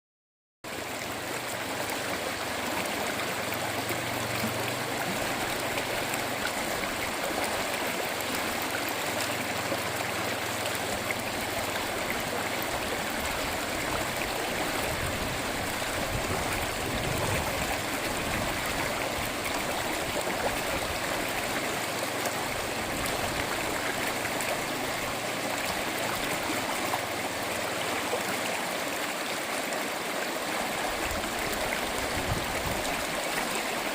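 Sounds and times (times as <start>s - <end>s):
stream flowing: 0.7s - 33.9s.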